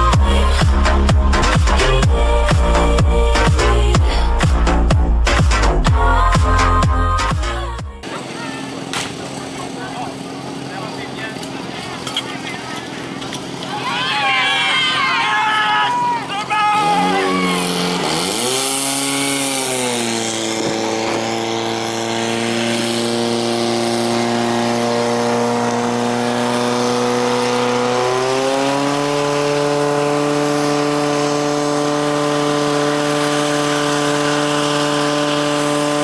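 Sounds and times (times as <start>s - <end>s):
pump engine high-revving drone: 0.0s - 36.0s.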